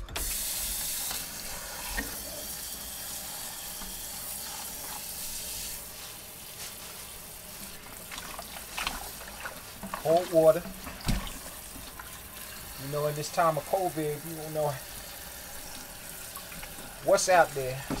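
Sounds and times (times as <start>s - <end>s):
faucet spraying water: 0.2s - 18.0s.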